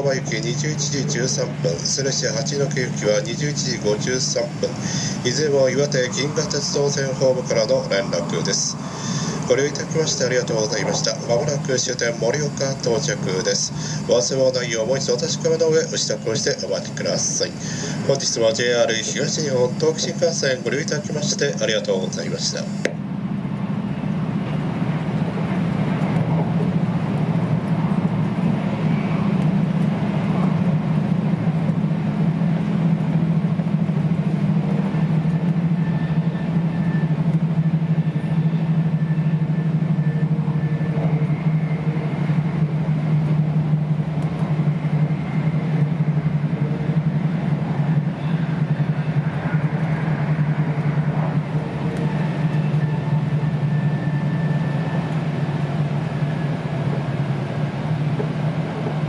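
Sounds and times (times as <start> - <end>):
faint whining tones: 0.0 - 59.0
train interior rumble: 0.0 - 59.0.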